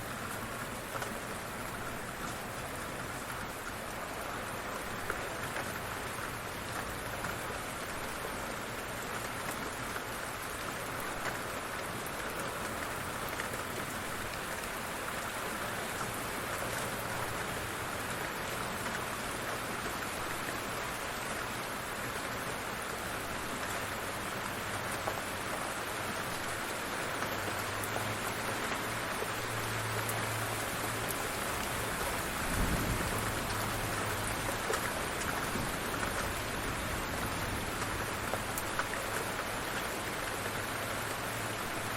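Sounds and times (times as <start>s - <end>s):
light rain falling: 0.0s - 41.9s.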